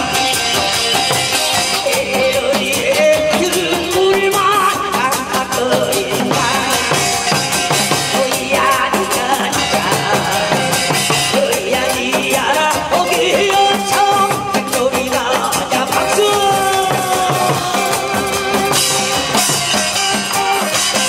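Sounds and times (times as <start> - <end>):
man singing: 0.0 - 19.4
cymbals: 0.0 - 21.0
drums beating: 0.0 - 21.0.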